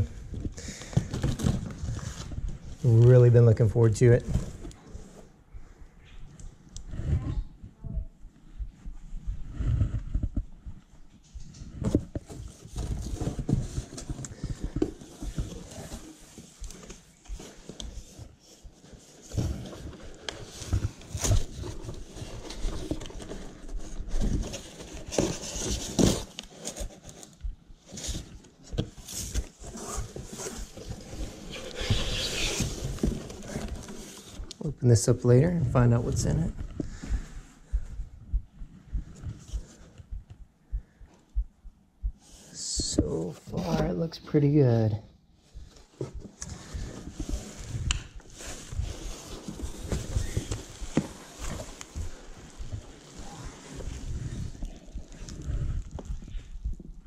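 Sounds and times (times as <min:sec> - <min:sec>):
cardboard rustling and scraping: 0:00.0 - 0:05.4, 0:08.8 - 0:40.2, 0:42.3 - 0:44.4, 0:45.4 - 0:57.0.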